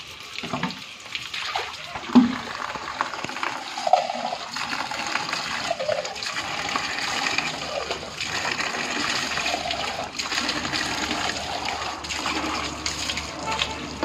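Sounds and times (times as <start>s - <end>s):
water pouring from pipe: 0.0s - 14.0s
water splashing on concrete: 0.0s - 14.0s.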